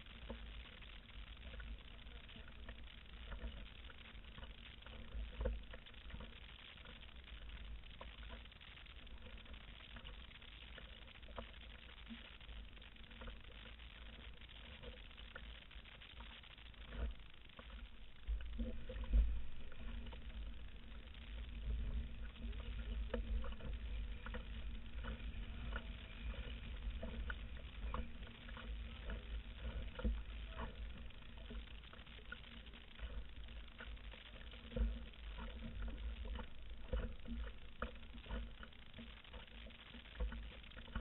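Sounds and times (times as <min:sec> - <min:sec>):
water lapping against canoe hull: 0:00.0 - 0:41.0.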